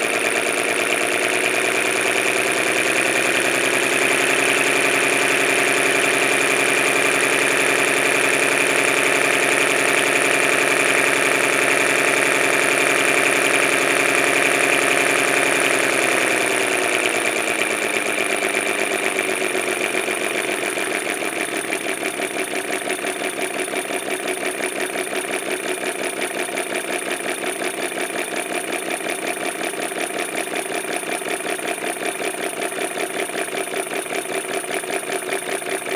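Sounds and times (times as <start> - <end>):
model engine idling: 0.0 - 35.9.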